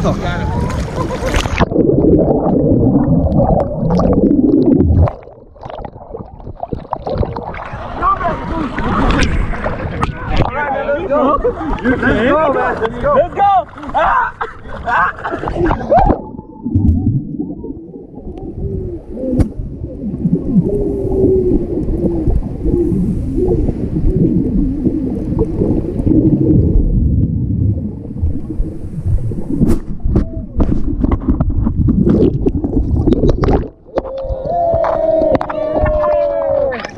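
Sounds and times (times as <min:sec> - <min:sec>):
underwater water gurgling and bubbling: 0:00.0 - 0:10.6, 0:14.4 - 0:36.9.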